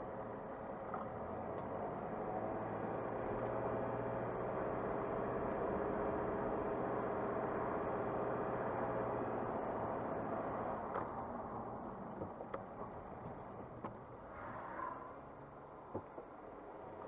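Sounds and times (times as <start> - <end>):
car engine hum with road noise: 0.0 - 17.0.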